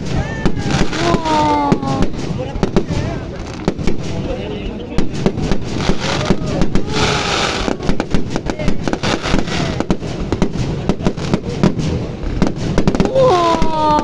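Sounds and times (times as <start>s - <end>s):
fireworks bangs and pops: 0.0s - 14.0s
fireworks hissing crackle: 0.0s - 14.0s.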